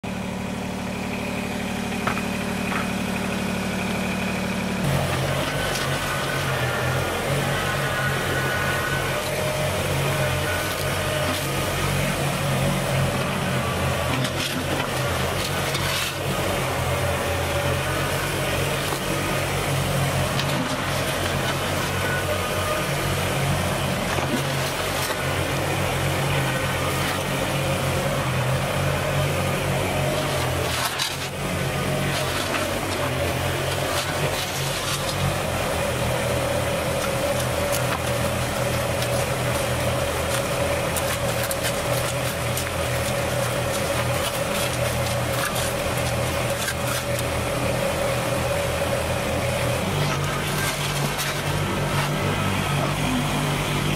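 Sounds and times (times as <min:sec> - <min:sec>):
diesel tractor engine running: 0:00.0 - 0:53.9
dirt and gravel sliding: 0:04.8 - 0:53.9.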